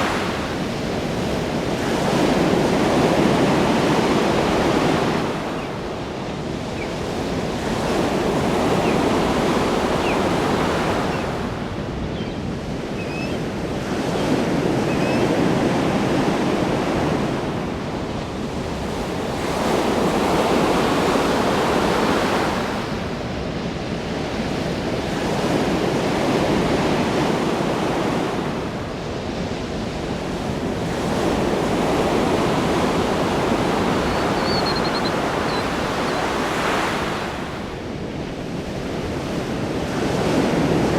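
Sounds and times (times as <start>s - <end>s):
ocean waves breaking: 0.0s - 23.4s, 25.3s - 40.9s.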